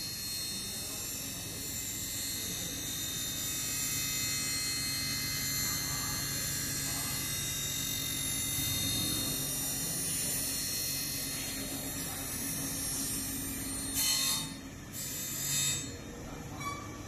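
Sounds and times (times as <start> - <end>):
grinding wheel humming and whining: 0.0 - 17.0.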